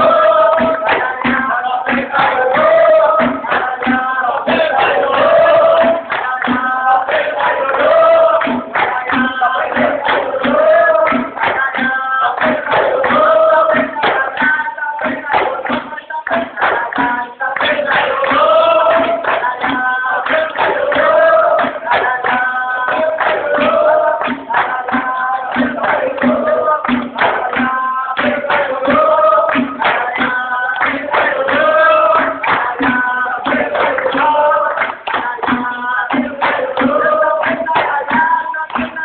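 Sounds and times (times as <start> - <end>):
group of voices chanting: 0.0 - 39.0
hand clapping: 0.0 - 39.0
percussion: 0.0 - 39.0.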